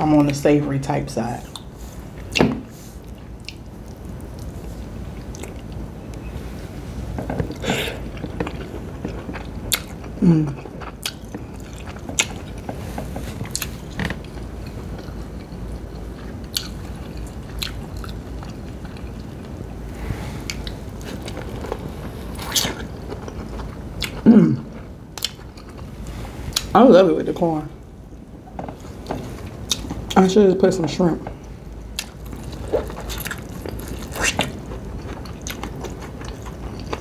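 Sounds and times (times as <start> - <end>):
wet chewing and lip smacks: 1.4 - 6.3, 7.4 - 19.7, 20.4 - 26.8, 28.8 - 30.2, 31.4 - 37.0.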